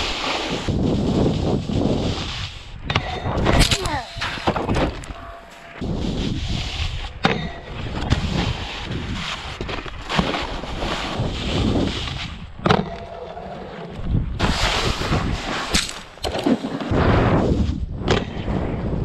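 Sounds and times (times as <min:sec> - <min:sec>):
snowboard scraping over snow: 0:00.0 - 0:02.8, 0:05.5 - 0:12.6, 0:13.5 - 0:19.0
wind on microphone: 0:00.0 - 0:05.2, 0:05.8 - 0:09.8, 0:10.6 - 0:12.8, 0:13.9 - 0:19.0.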